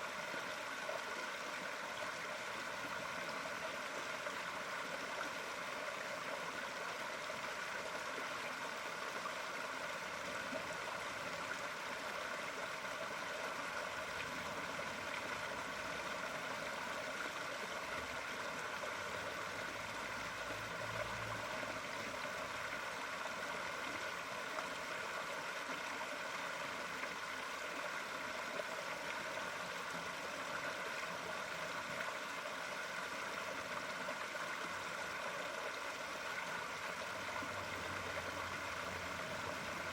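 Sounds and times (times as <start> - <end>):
gurgling water flowing: 0.0 - 39.9.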